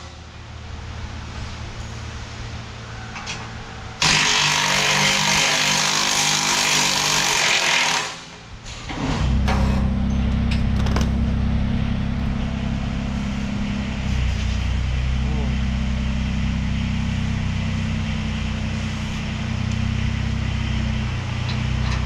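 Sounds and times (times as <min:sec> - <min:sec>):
low machine hum: 0:00.0 - 0:07.2, 0:08.3 - 0:22.0.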